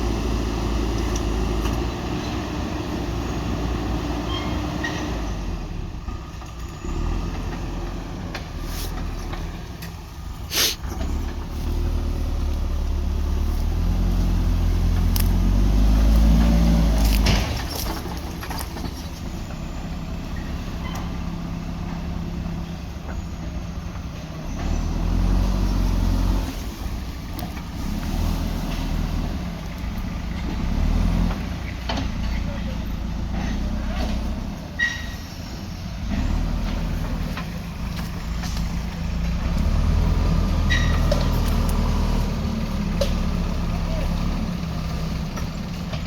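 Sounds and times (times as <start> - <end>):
diesel engine revving: 0.0 - 46.0.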